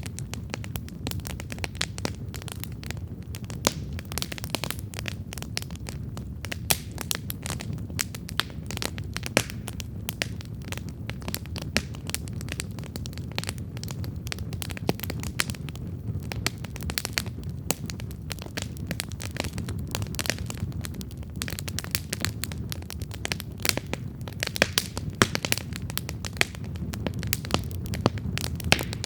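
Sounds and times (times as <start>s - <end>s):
campfire crackling: 0.0s - 29.0s
low rumble of burning fire: 0.0s - 29.0s.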